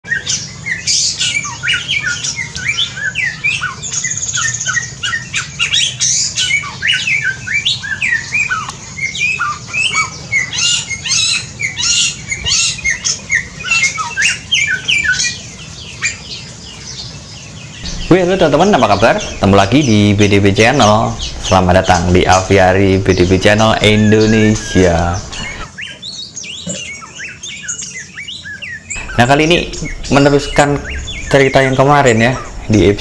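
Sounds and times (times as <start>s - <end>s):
birds chirping and calling: 0.0s - 33.0s.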